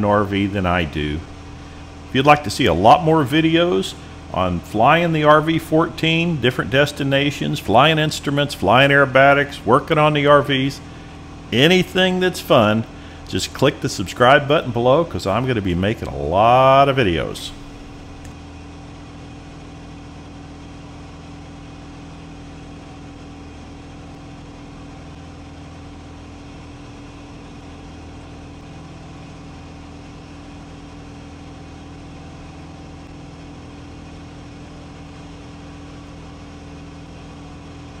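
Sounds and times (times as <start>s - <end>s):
aircraft engine and propeller droning: 0.0s - 38.0s.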